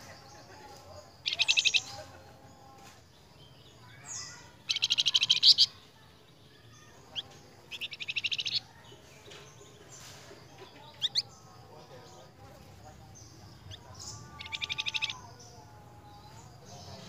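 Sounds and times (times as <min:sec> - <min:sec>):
songbird trilling: 0:01.1 - 0:02.6, 0:03.4 - 0:05.9, 0:06.6 - 0:12.4, 0:13.0 - 0:17.0.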